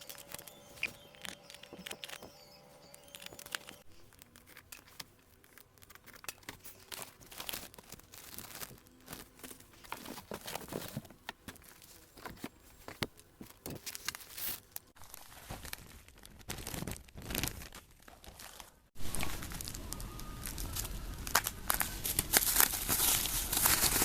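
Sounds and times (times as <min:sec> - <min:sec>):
plastic crinkling and tearing: 0:00.0 - 0:24.0.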